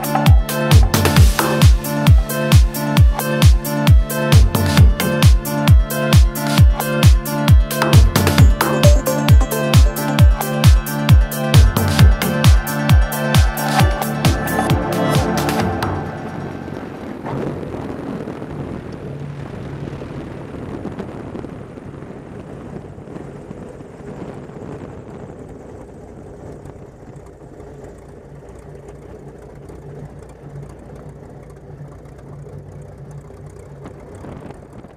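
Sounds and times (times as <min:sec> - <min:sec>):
airplane engine idling: 0:00.0 - 0:19.5, 0:22.6 - 0:34.9.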